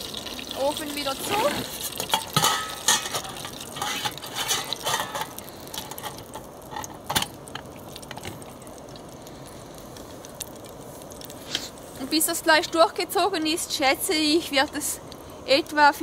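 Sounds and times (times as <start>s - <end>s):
gas stove hissing: 0.0s - 16.0s.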